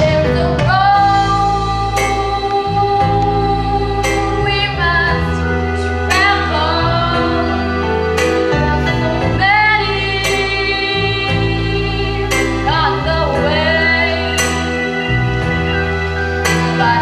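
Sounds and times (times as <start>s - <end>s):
girl singing gospel ballad: 0.0s - 17.0s
instrumental accompaniment: 0.0s - 17.0s.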